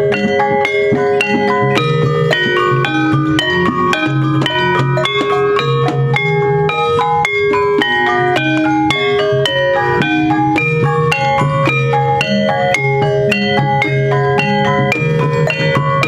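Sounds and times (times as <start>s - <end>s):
metallophones struck: 0.0s - 16.0s.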